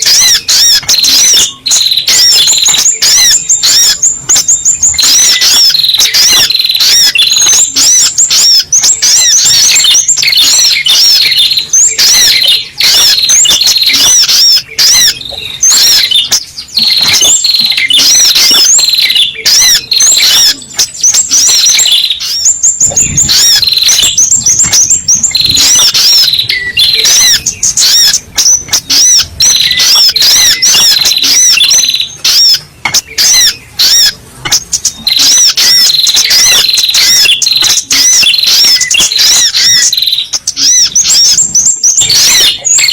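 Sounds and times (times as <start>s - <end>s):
bird chattering calls: 0.0s - 42.9s.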